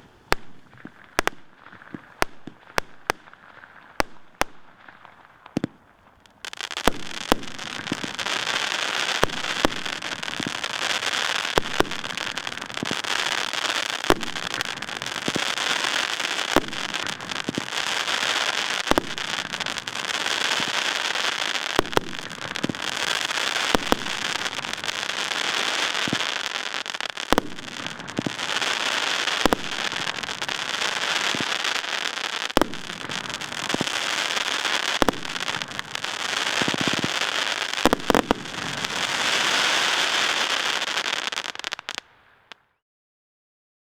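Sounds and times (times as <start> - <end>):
loud firework bangs: 0.0 - 42.5
fireworks crackling: 0.0 - 42.6.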